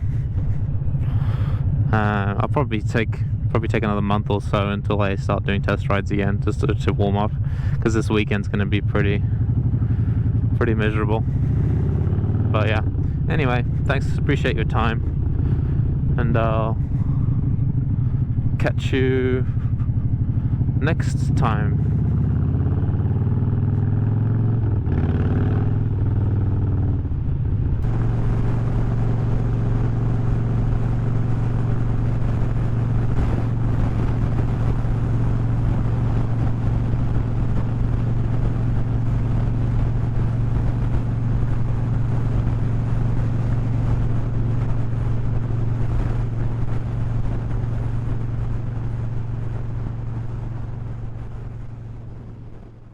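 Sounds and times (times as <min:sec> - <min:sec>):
motorcycle engine cruising: 0:00.0 - 0:52.9
wind noise: 0:00.0 - 0:52.9.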